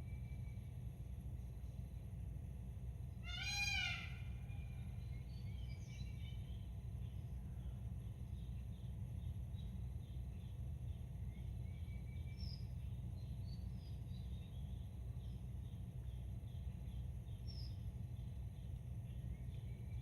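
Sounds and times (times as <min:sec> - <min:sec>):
bird calls: 0:03.2 - 0:20.0.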